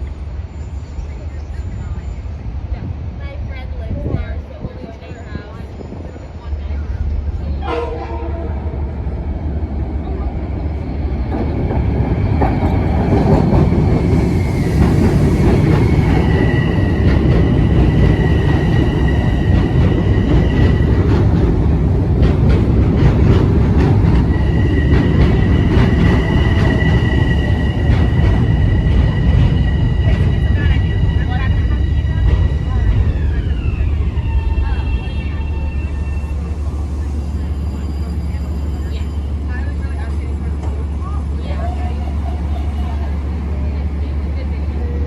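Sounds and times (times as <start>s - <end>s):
train rumble: 0.0s - 45.0s
rail clicks: 3.3s - 45.0s.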